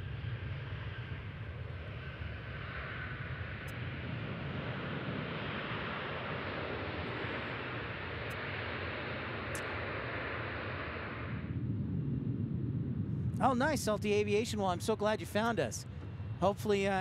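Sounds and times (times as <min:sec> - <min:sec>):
jet plane taking off: 0:00.0 - 0:17.0.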